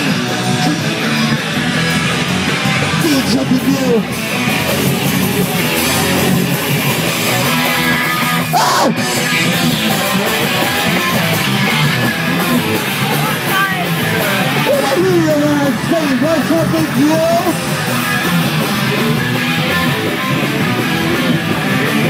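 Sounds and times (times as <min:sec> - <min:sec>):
distorted electric guitar: 0:00.0 - 0:22.0
punk band playing live: 0:00.0 - 0:22.0.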